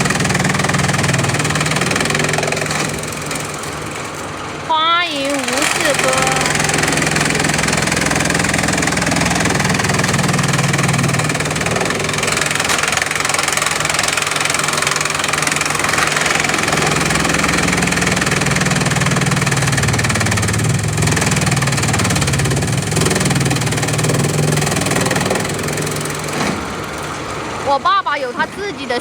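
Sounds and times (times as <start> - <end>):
crushing machine drone: 0.0 - 29.0.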